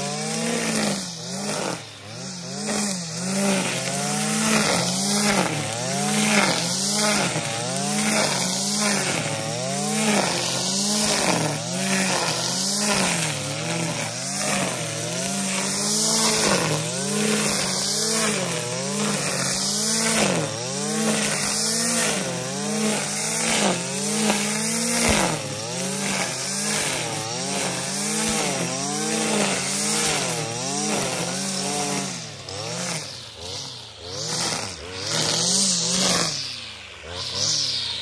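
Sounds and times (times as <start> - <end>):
brushcutter engine at high revs: 0.0 - 38.0
trimmer line cutting grass: 0.0 - 38.0.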